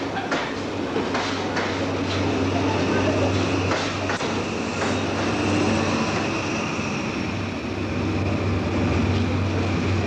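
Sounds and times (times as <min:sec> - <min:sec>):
train rumble and hum: 0:00.0 - 0:10.0.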